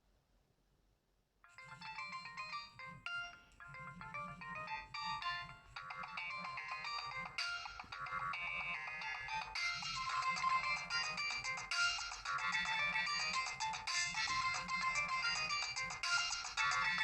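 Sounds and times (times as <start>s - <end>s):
polyphonic phone ringtone: 1.4s - 17.0s.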